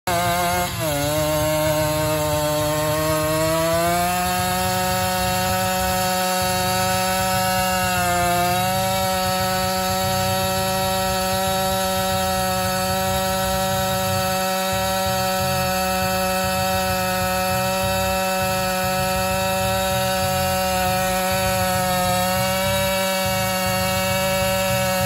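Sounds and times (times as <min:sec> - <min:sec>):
two-stroke engine at high revs: 0:00.0 - 0:25.0.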